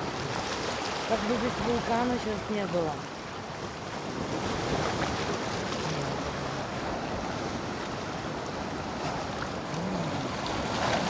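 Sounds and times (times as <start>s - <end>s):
waves washing against rocks: 0.0s - 11.0s.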